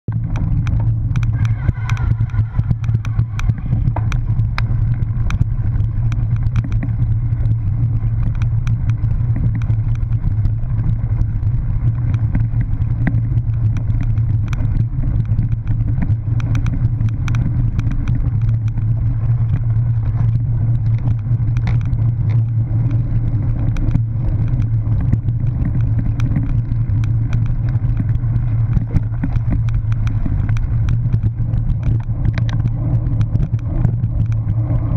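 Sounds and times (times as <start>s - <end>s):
bike clicks and rattles: 0.1s - 34.9s
bike riding over bumpy dirt: 0.1s - 34.9s.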